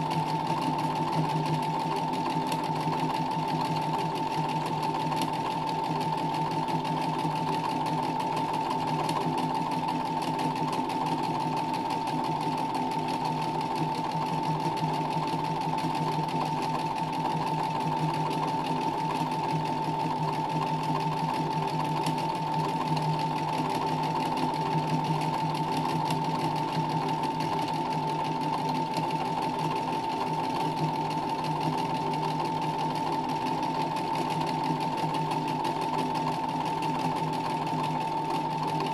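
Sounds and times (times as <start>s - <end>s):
sewing machine stitching fast: 0.0s - 38.9s.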